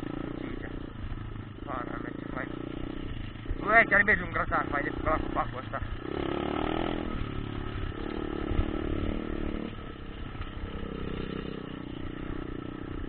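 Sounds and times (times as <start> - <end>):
motocross bike engine running: 0.0 - 13.0.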